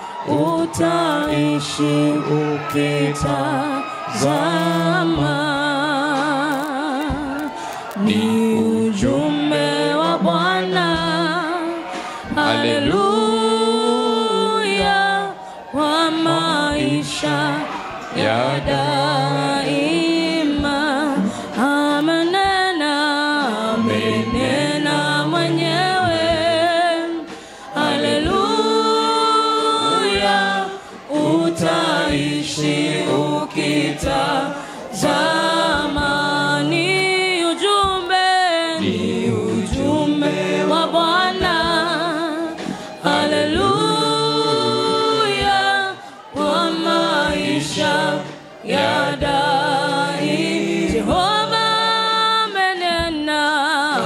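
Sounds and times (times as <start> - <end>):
voices singing gospel song: 0.0 - 54.0.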